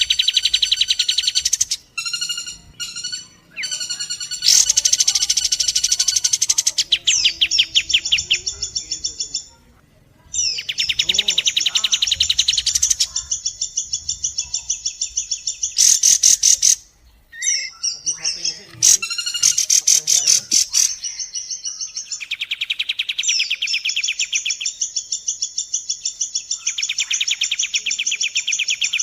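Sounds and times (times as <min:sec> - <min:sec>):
birds calling fast high notes: 0:00.0 - 0:29.0.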